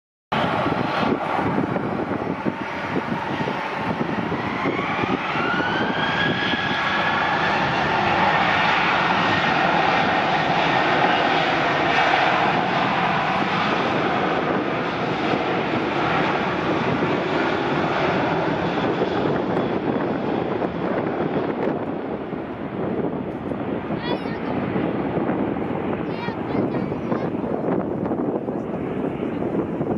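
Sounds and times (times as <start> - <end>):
jet engine whine: 0.3 - 29.9
jet roar: 0.3 - 29.9.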